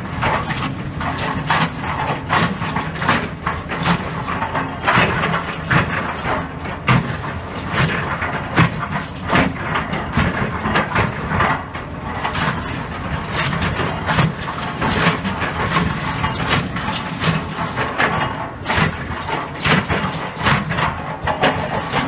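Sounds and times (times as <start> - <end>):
excavator diesel engine: 0.0 - 22.0
bucket knocking on concrete rubble: 0.2 - 22.0.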